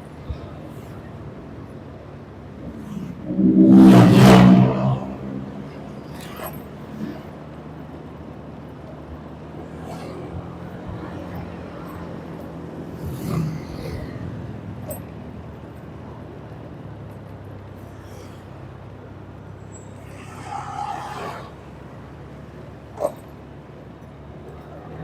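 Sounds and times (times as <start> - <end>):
vehicle engine running: 0.0 - 20.2
traffic: 0.0 - 25.0.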